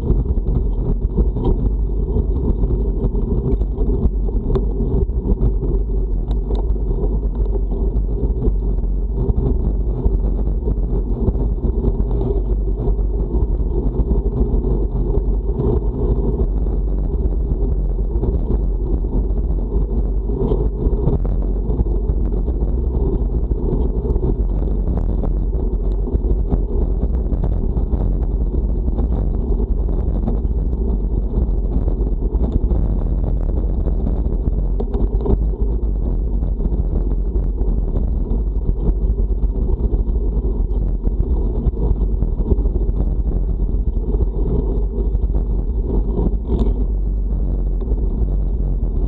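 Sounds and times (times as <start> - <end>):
wind rumbling on microphone: 0.0 - 49.0.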